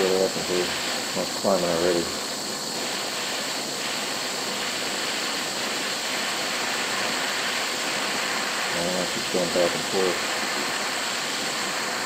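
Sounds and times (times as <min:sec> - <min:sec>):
gas torch hissing roar: 0:00.0 - 0:12.0.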